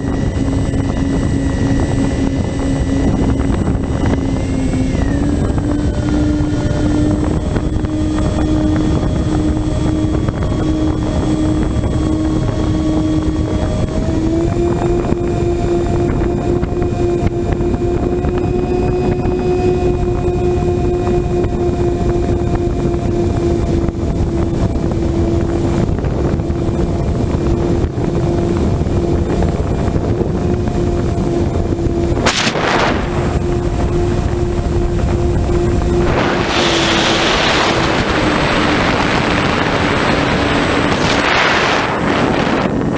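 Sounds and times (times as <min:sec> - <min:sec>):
model aircraft motor and propeller: 0:00.0 - 0:42.9
wind rush on microphone: 0:00.0 - 0:42.9.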